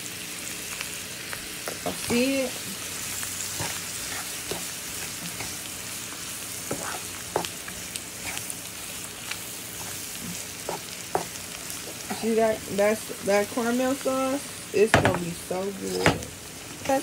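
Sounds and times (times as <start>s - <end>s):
butter and sugar sizzling in a pan: 0.0s - 17.0s.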